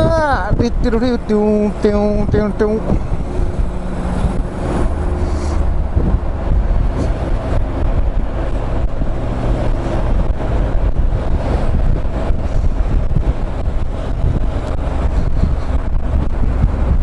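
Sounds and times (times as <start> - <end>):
motorcycle engine running: 0.0 - 17.0
road noise: 0.0 - 17.0
wind rushing: 0.0 - 17.0.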